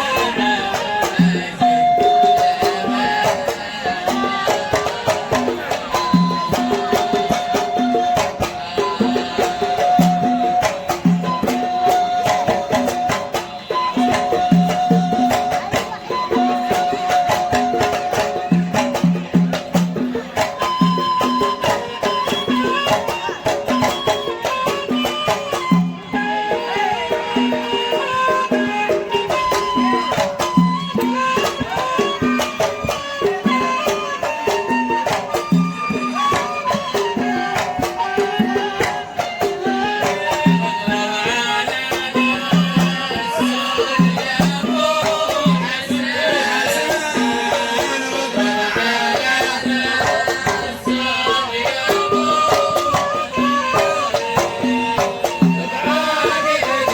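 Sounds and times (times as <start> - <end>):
band playing melodic line: 0.0 - 56.9
hand drums beating: 0.0 - 56.9.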